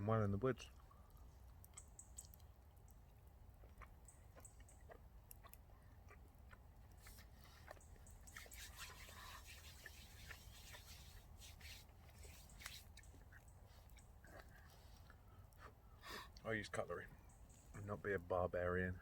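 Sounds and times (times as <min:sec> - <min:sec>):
person chewing steak: 0:00.8 - 0:16.4.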